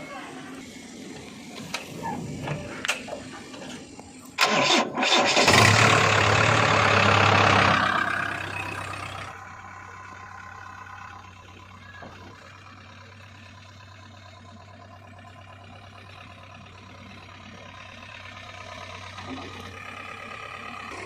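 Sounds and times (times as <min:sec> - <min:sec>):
diesel engine starting and idling: 0:00.0 - 0:21.0.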